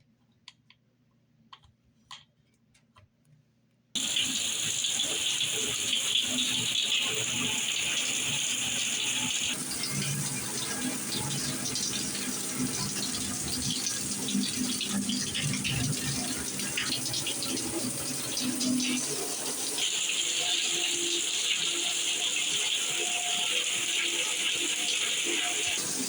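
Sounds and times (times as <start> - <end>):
shower head spraying water: 4.0 - 26.0.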